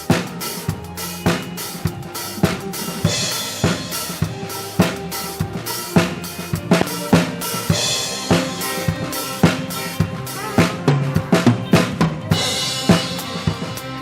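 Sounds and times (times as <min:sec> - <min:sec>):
drum kit beat: 0:00.0 - 0:14.0
live band playing dance music: 0:00.0 - 0:14.0.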